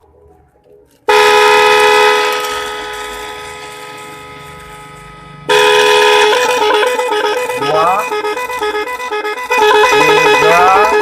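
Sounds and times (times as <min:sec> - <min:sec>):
electric horn two-tone blare: 0:01.1 - 0:11.0.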